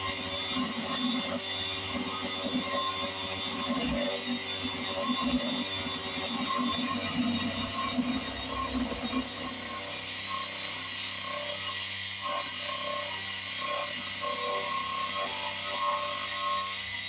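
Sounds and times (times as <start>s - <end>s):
spindle motor whining: 0.0s - 17.0s.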